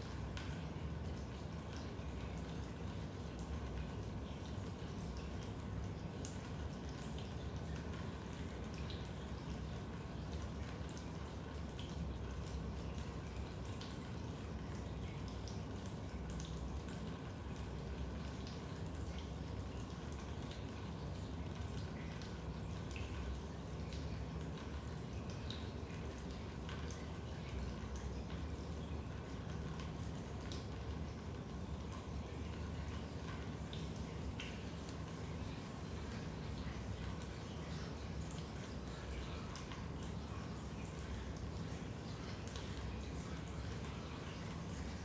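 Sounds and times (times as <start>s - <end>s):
water dripping: 0.0s - 45.0s.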